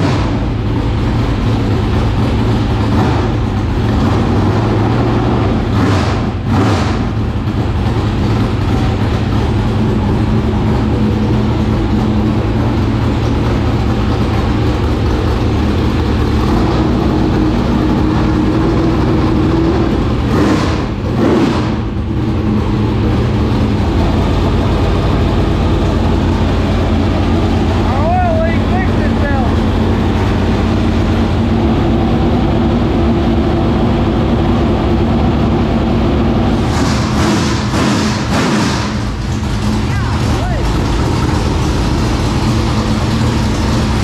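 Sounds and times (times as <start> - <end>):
engine revving: 0.0 - 44.0
racing engine running loud: 0.0 - 44.0.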